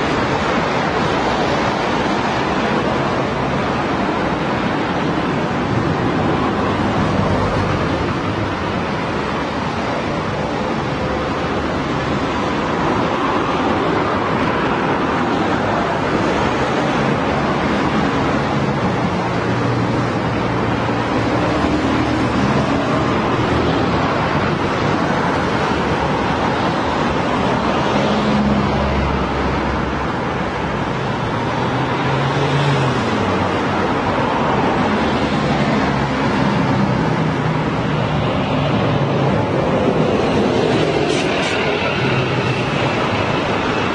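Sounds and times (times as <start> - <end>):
passing vehicle engines humming: 0.0 - 43.9
road traffic: 0.0 - 43.9.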